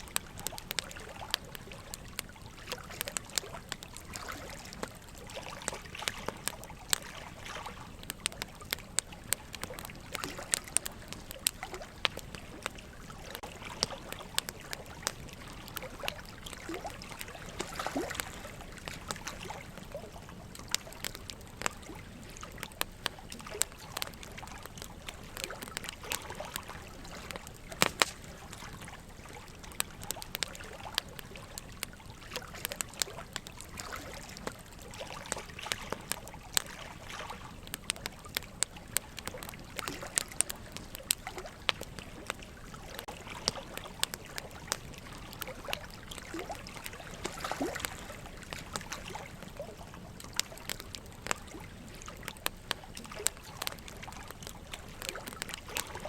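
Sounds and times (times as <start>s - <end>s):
running water trickling: 0.0s - 56.0s
wood fire crackling and popping: 0.0s - 56.0s.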